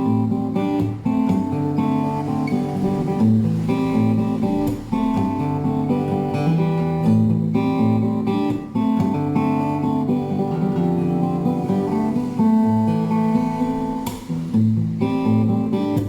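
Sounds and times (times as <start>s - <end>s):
acoustic guitar music over loudspeakers: 0.0s - 16.0s.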